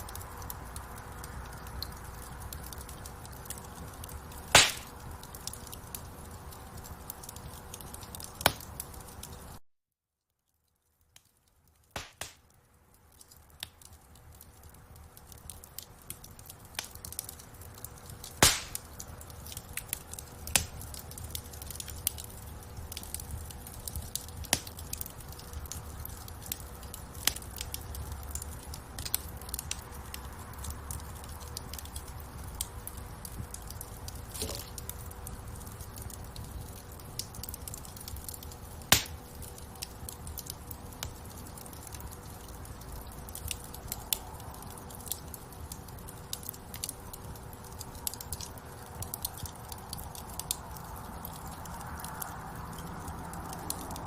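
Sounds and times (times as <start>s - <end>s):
fire snapping and popping: 0.0s - 9.6s, 10.7s - 54.0s
low rumble of flames: 0.0s - 9.6s, 10.7s - 54.0s.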